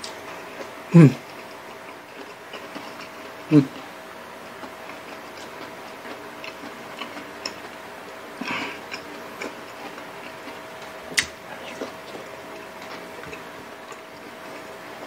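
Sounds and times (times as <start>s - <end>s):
wet chewing clicks and smacks: 0.0s - 3.4s, 4.6s - 7.8s, 8.9s - 14.7s.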